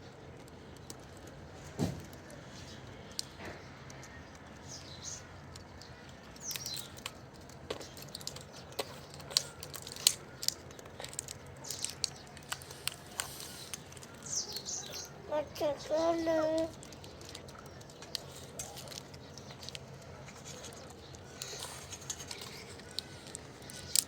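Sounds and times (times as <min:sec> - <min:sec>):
sharp clicks and cracks: 0:00.0 - 0:24.0.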